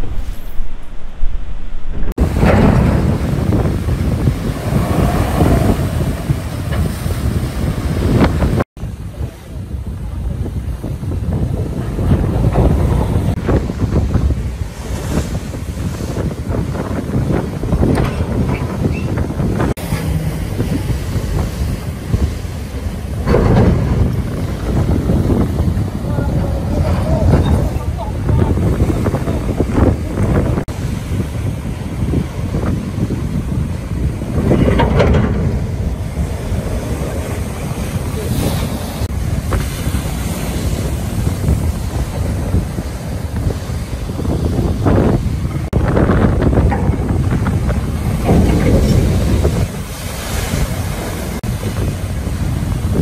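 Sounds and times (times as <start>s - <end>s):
waves breaking against ship hull: 0.0s - 53.0s
wind rumbling on microphone: 0.0s - 53.0s.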